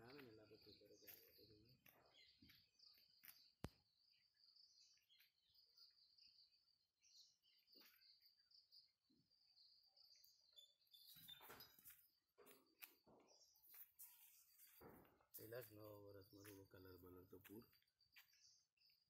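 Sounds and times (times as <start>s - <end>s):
faint high chirping: 0.0s - 19.0s.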